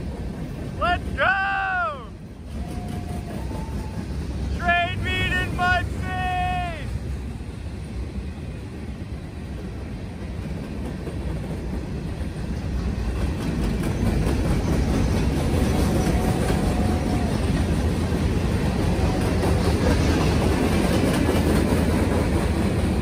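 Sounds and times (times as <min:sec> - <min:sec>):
freight train wheels rumbling on rail: 0:00.0 - 0:23.0
train cars rattling and clacking: 0:00.0 - 0:23.0.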